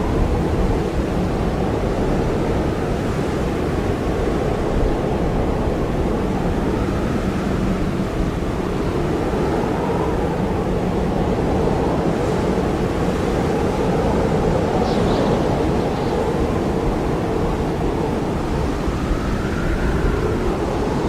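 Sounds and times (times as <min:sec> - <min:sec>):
strong howling wind: 0:00.0 - 0:21.0.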